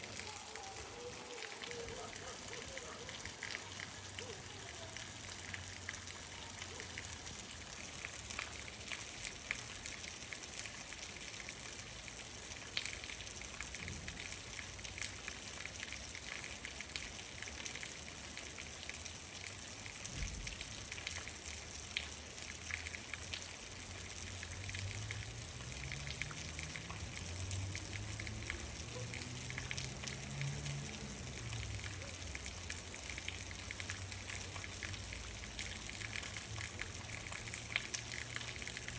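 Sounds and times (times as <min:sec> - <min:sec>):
raindrops ticking on surface: 0:00.0 - 0:38.9
steady rain: 0:00.0 - 0:38.9.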